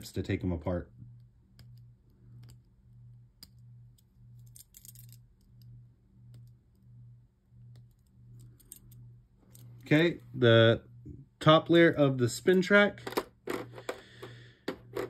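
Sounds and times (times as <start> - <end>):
pulsing low hum: 0.7 - 15.0.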